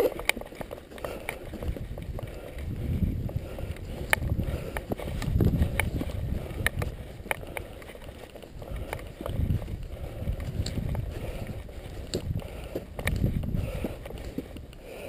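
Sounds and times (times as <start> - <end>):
bike rattling over bumps: 0.0 - 15.0
bike tyres rumbling on dirt: 0.0 - 15.0
wind on microphone: 1.1 - 15.0.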